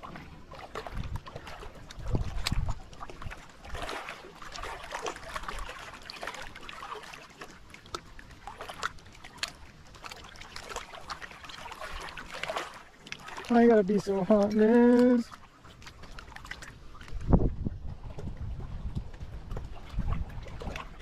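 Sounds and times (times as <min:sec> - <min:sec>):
water lapping and splashing: 0:00.0 - 0:21.0.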